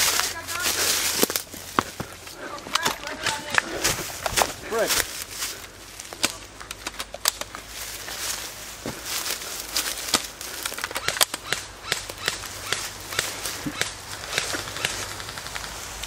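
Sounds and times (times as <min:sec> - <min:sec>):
footsteps through dry leaves: 0:00.0 - 0:06.6, 0:07.5 - 0:10.8, 0:11.8 - 0:16.0
twigs snapping: 0:00.0 - 0:16.0.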